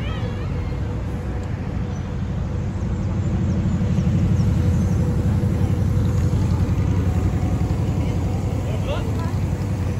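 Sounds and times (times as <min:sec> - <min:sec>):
road traffic passing: 0:00.0 - 0:09.9.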